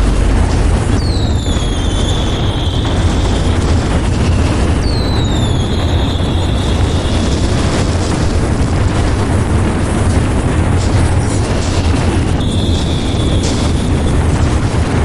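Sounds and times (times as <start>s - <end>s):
fireworks explosions rumbling: 0.0s - 15.0s
whistling firework: 0.3s - 9.4s, 11.5s - 15.0s.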